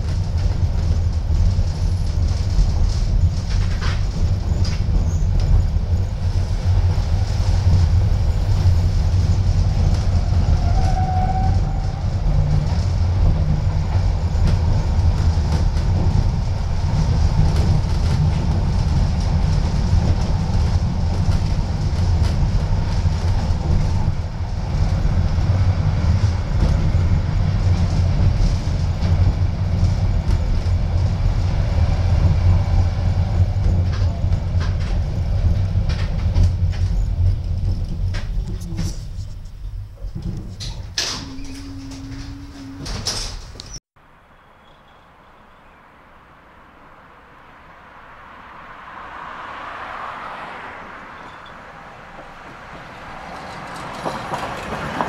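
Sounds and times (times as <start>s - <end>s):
tram wheels rumbling on rails: 0.0s - 43.8s, 47.5s - 55.0s.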